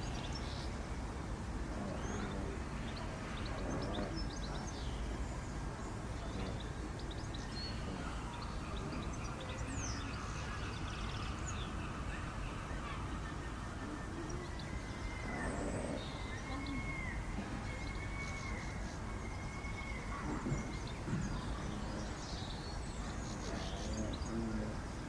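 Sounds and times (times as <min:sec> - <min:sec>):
background hum: 0:00.0 - 0:25.0
faint murmur of voices: 0:00.0 - 0:25.0.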